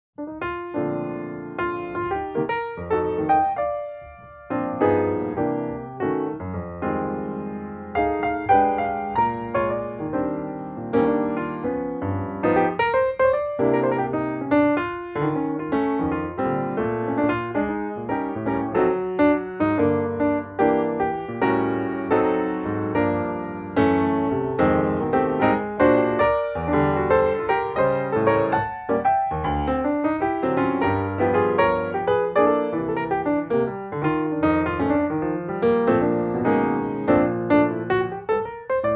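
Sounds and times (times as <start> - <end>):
piano music: 0.2 - 38.9.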